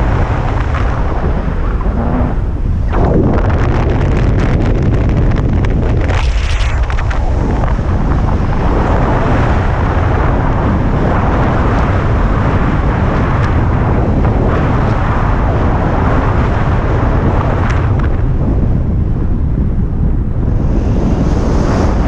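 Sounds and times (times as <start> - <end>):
airflow buffeting microphone: 0.0 - 22.0.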